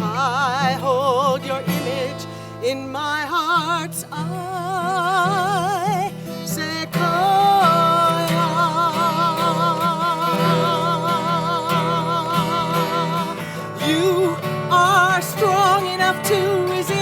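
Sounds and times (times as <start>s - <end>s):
guitar accompaniment: 0.0s - 17.0s
person singing with vibrato: 0.0s - 17.0s.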